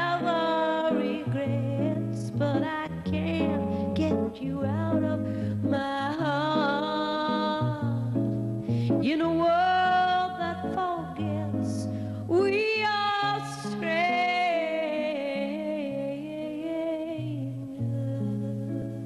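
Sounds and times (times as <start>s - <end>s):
woman singing with vibrato: 0.0s - 8.3s, 8.9s - 19.0s
jazz guitar: 0.0s - 19.0s.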